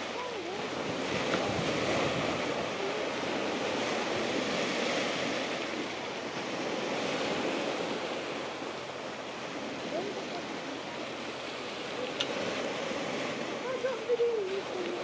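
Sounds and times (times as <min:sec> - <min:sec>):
sea surf washing onto shore: 0:00.0 - 0:15.0
wind buffeting microphone: 0:00.0 - 0:15.0.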